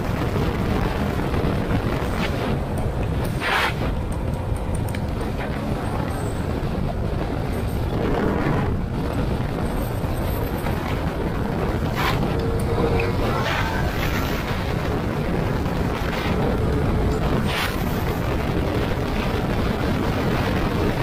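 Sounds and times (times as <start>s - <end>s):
vehicle rumble and road noise: 0.0s - 21.0s.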